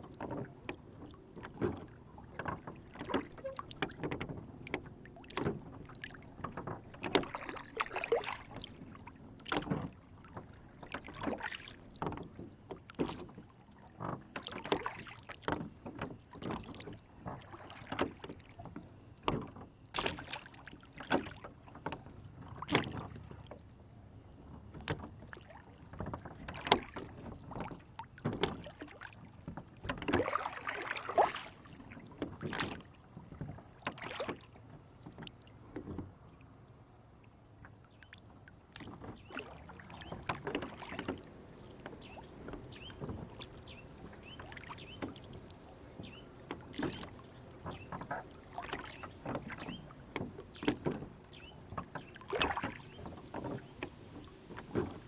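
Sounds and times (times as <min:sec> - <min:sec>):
water lapping against a boat: 0:00.0 - 0:55.0.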